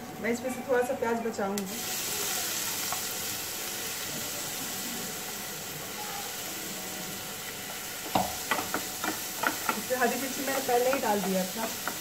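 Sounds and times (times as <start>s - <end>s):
onion sizzling in hot oil: 0.3s - 12.0s.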